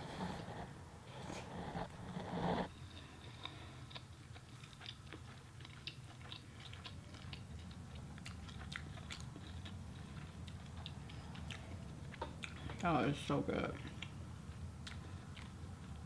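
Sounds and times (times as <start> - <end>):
low steady hum: 0.0 - 16.0
chewing crunchy food: 2.7 - 16.0.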